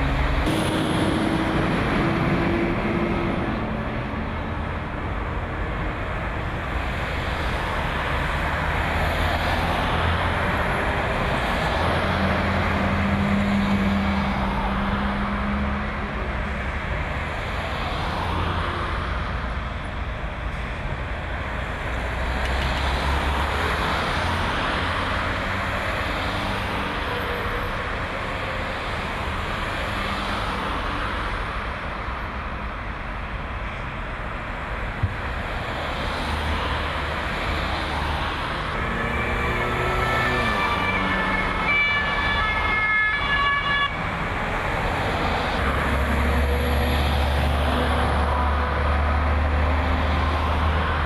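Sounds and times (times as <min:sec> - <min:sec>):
vehicle engines rumbling: 0:00.0 - 0:51.0.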